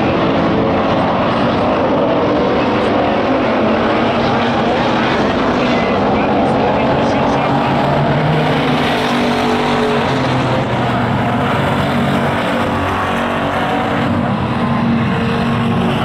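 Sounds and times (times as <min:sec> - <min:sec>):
race car engines running hard: 0:00.0 - 0:16.0.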